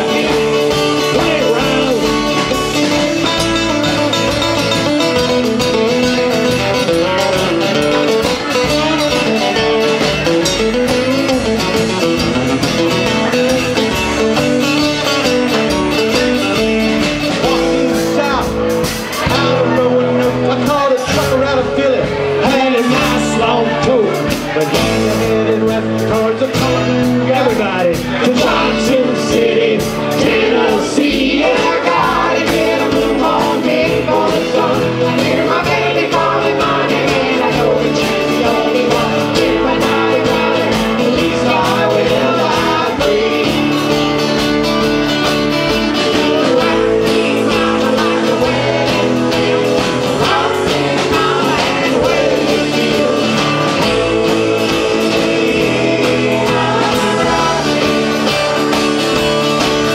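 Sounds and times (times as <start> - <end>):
strummed acoustic guitars: 0.0 - 59.9
upright bass: 0.0 - 59.9.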